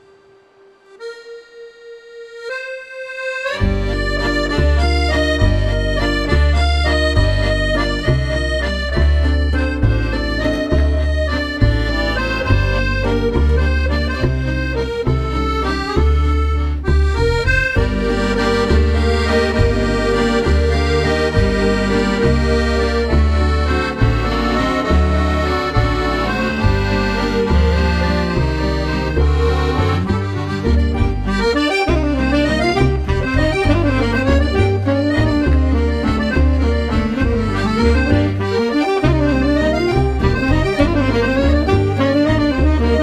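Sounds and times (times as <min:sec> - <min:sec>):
music with pulsing bass beat: 0:03.6 - 0:43.0.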